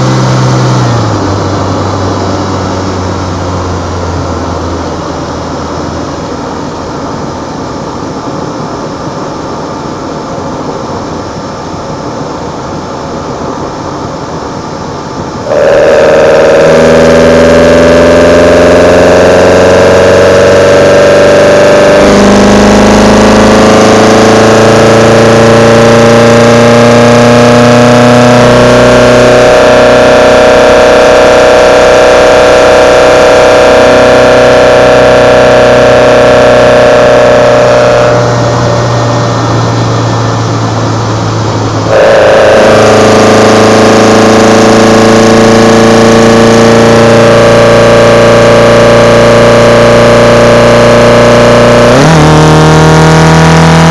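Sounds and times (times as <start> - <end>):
engine induction roar: 0.0 - 53.9.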